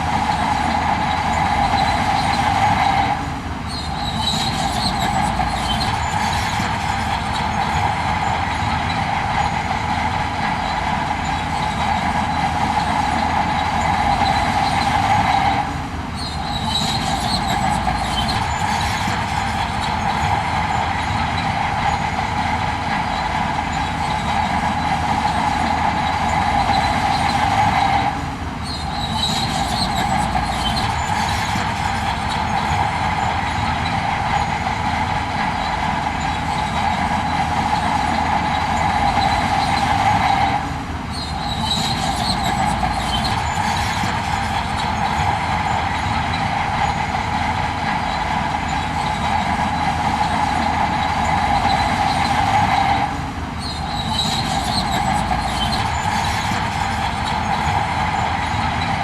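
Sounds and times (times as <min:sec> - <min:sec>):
construction machinery engine rumble: 0:00.0 - 0:59.0
metallic whine: 0:00.0 - 0:59.0.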